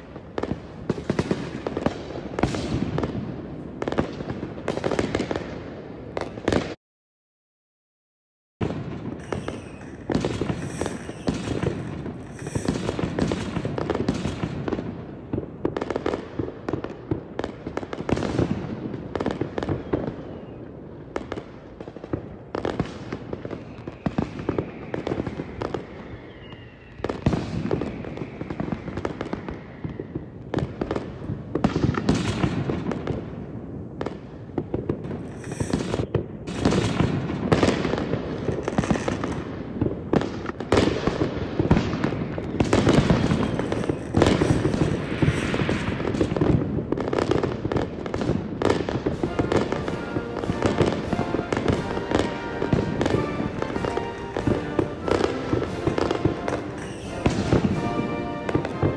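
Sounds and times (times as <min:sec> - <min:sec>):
fireworks booming and crackling: 0:00.0 - 0:06.8, 0:08.6 - 0:58.9.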